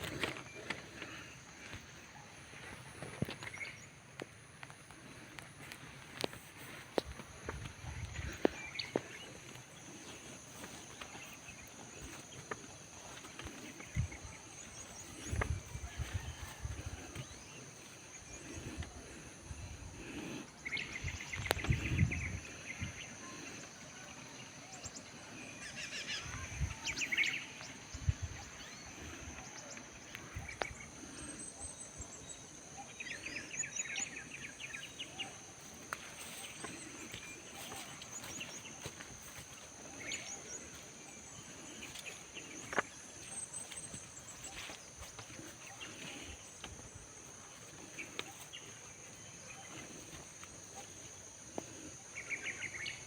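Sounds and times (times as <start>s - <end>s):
birds chirping and trilling: 0.0s - 53.0s.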